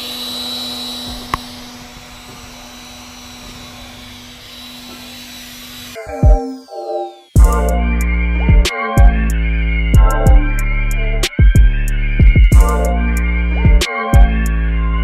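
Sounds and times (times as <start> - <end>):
electric fan motor whirring: 0.0 - 14.7.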